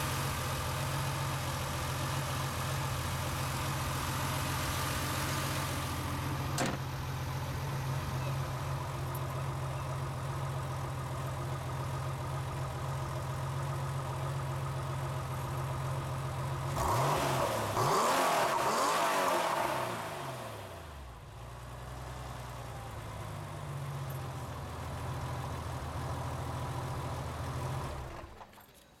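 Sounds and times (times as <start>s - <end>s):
car engine idling and revving: 0.0s - 28.7s.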